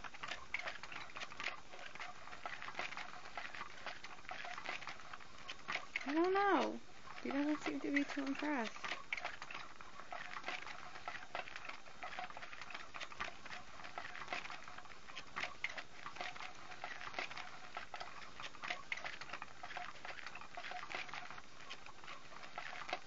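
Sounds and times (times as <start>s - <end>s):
cat toy scratching fabric: 0.1s - 23.0s.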